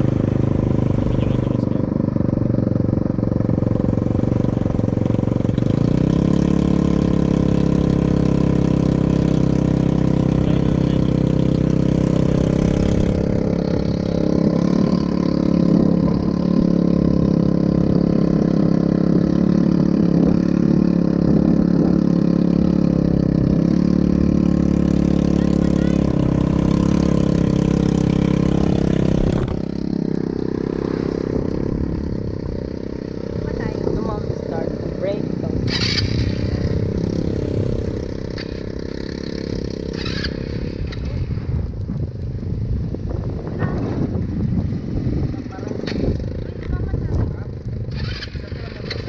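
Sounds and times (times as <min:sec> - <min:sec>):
all-terrain vehicle engine running: 0:00.0 - 0:49.0.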